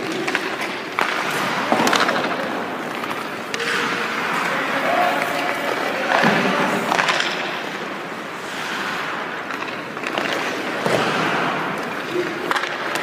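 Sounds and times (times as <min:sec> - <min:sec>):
stick clacking on puck: 0:00.0 - 0:07.8, 0:08.5 - 0:13.0
skates scraping on ice: 0:00.0 - 0:13.0.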